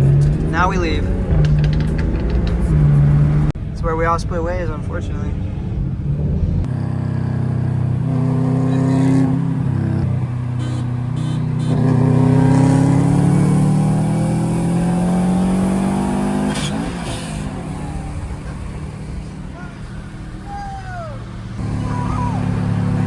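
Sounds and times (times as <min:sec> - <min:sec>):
car engine accelerating: 0:00.0 - 0:03.6, 0:05.4 - 0:23.0.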